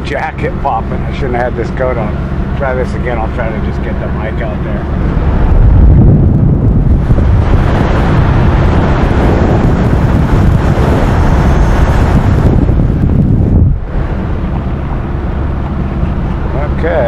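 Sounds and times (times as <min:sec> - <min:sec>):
car road noise: 0:00.0 - 0:17.0
wind rushing over microphone: 0:00.0 - 0:17.0.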